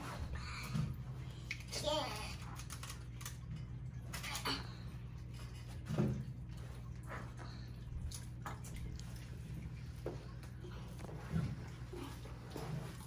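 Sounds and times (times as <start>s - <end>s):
faint knocks and rustles: 2.5s - 13.0s.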